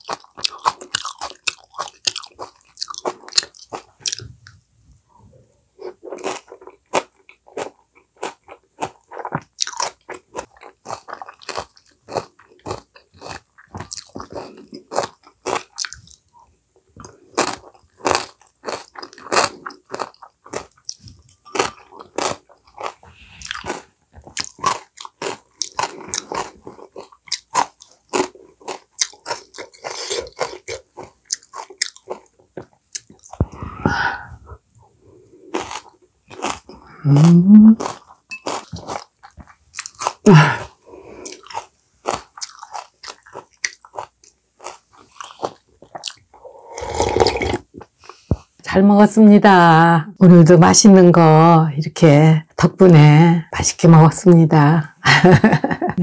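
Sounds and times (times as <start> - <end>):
chewing crunchy food: 0.0 - 4.6, 5.8 - 33.6, 34.5 - 48.6.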